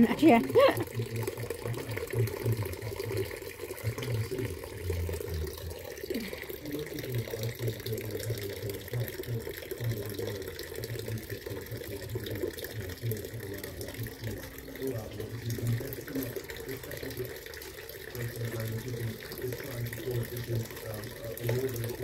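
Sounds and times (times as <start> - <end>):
water splashing into stone basin: 0.0 - 22.0.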